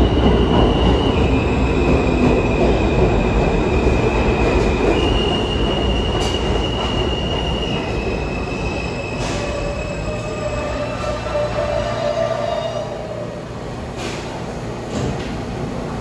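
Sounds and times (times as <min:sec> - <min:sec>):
train wheels squealing on rails: 0:00.0 - 0:13.4
train rumble: 0:00.0 - 0:16.0.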